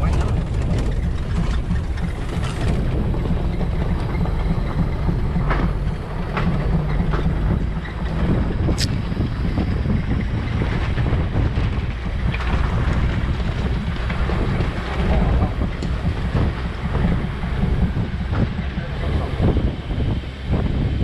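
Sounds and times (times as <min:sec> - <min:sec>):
vehicle engine rumble: 0:00.0 - 0:21.0
vehicle knocks and clicks: 0:00.0 - 0:21.0
wind buffeting microphone: 0:00.0 - 0:21.0.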